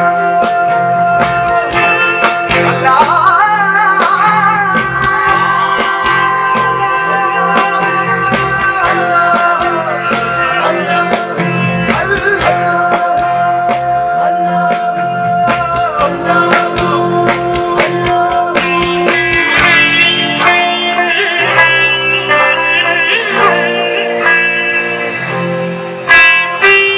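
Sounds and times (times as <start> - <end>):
electric guitar bending notes: 0.0 - 26.9
rock band playing live: 0.0 - 26.9.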